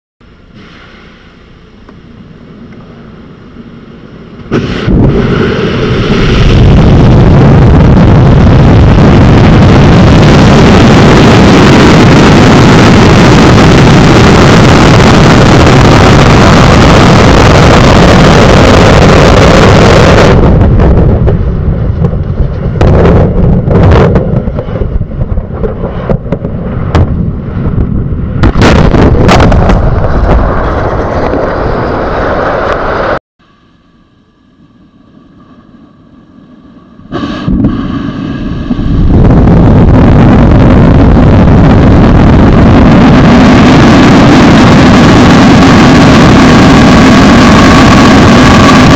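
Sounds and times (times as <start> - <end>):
faint hum: 0.2 - 23.4, 26.8 - 48.9
rocket engines roaring: 0.2 - 48.9
explosion bangs and crackling: 2.5 - 33.2, 37.1 - 48.9.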